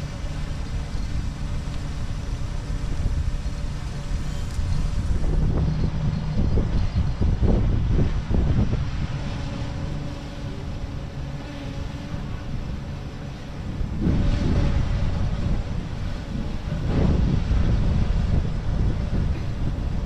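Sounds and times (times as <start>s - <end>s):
faint steady hum: 0.0s - 20.0s
wind buffeting microphone: 0.0s - 20.0s.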